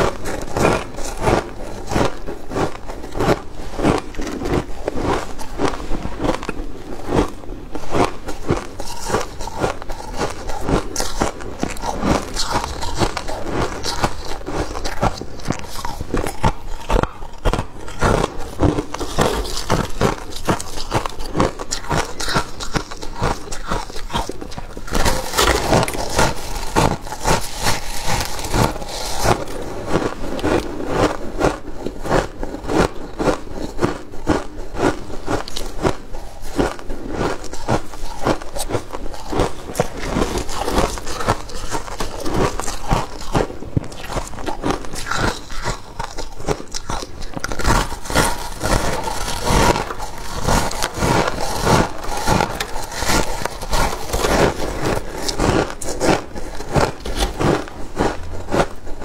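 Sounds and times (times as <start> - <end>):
frost being chewed crunching: 0.0 - 59.0.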